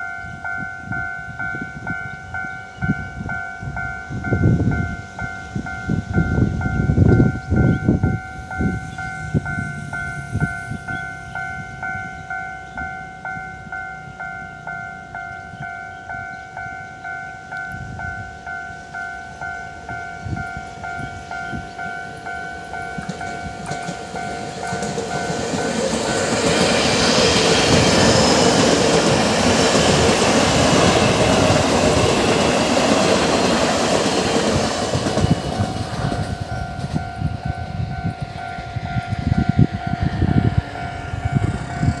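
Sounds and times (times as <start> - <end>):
level-crossing warning bell: 0.0 - 42.0
train passing: 0.0 - 42.0.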